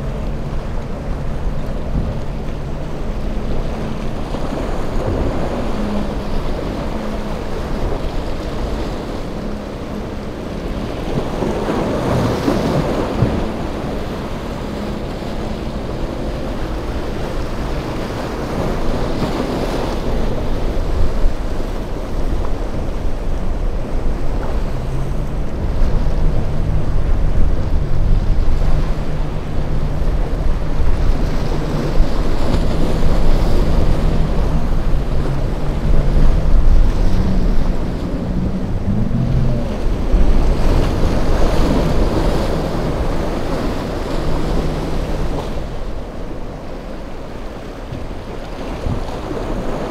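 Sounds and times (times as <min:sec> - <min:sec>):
outboard motors droning: 0:00.0 - 0:49.9
waves breaking: 0:00.0 - 0:49.9
wind buffeting microphone: 0:00.0 - 0:49.9.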